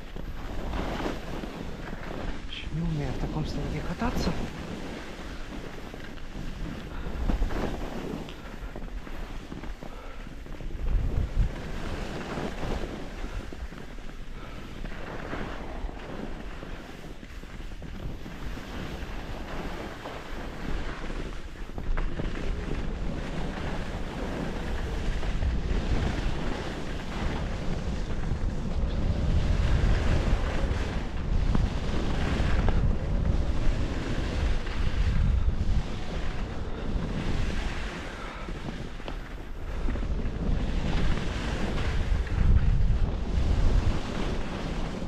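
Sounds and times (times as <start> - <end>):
skis hissing over snow: 0.0 - 45.0
wind rushing over microphone: 0.0 - 45.0.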